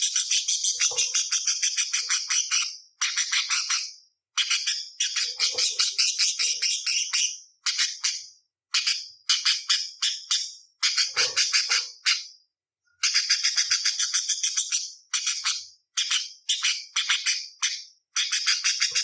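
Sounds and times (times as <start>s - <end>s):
budgerigar chattering: 0.0s - 8.2s, 8.8s - 12.3s, 13.0s - 19.0s.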